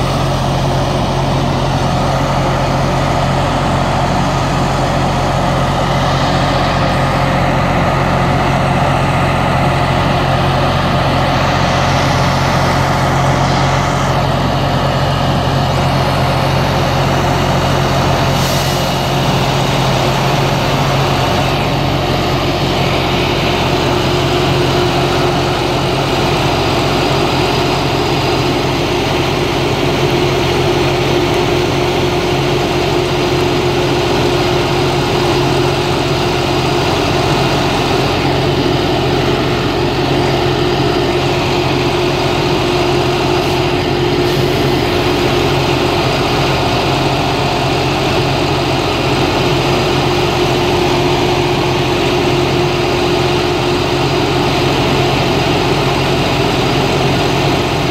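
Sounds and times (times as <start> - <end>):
diesel engines idling: 0.0 - 57.9
steady hum: 0.0 - 57.9.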